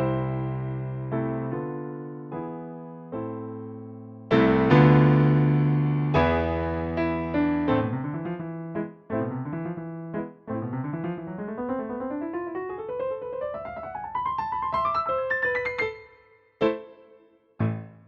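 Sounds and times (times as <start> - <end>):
clipped piano chords: 0.0 - 18.0
piano run of notes: 0.0 - 18.0.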